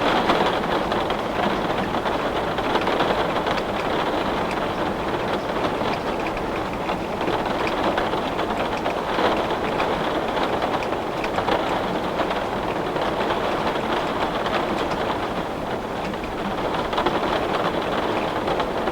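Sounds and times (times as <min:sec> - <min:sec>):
heavy rain on window glass: 0:00.0 - 0:18.9.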